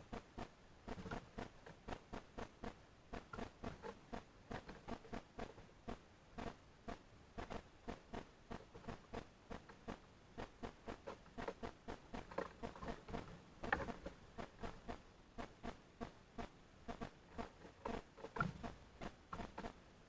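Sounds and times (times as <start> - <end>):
birds pecking at seed feeder: 0.0 - 19.8.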